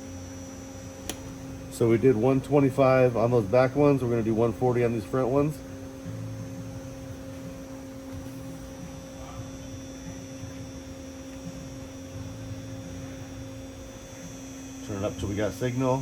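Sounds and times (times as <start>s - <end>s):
hum-like test tone: 0.0s - 16.0s.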